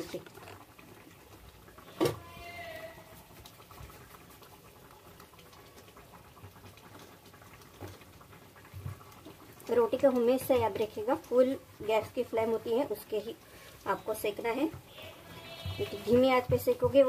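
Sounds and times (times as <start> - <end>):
faint steady background: 0.0 - 17.0.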